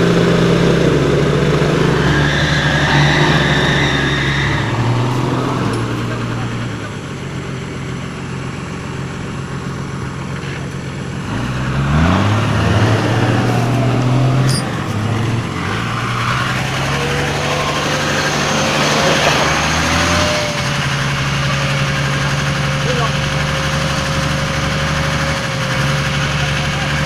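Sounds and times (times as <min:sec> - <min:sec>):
truck engines running under load: 0:00.0 - 0:27.0.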